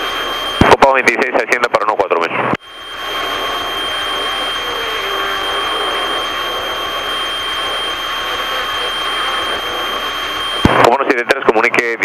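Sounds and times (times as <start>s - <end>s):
thin high whine: 0.0s - 1.8s, 2.5s - 12.0s.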